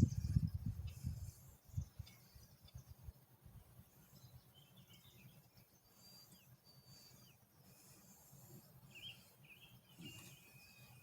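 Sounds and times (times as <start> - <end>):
faint songbird chirps: 0.0 - 11.0.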